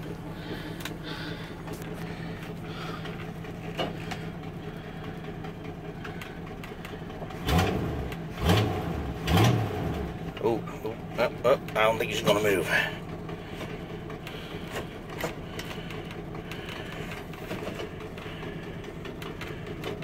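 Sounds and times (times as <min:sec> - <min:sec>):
engine idling: 0:00.0 - 0:20.0
engine throttle blips: 0:00.0 - 0:20.0.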